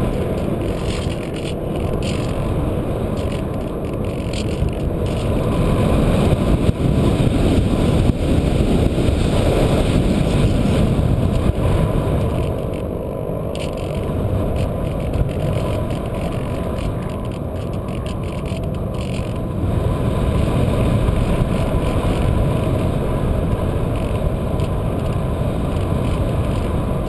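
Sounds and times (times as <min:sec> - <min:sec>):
rushing airflow: 0:00.0 - 0:27.0.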